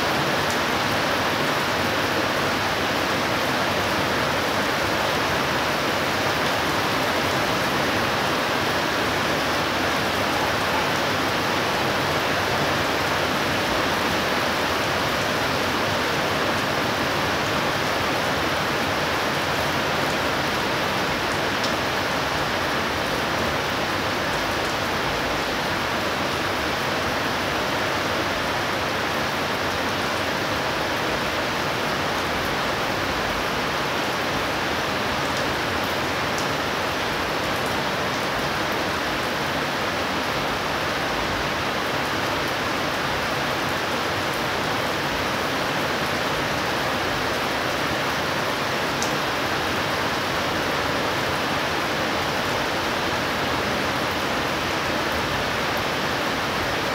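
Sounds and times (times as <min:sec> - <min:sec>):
heavy rain downpour: 0:00.0 - 0:56.9.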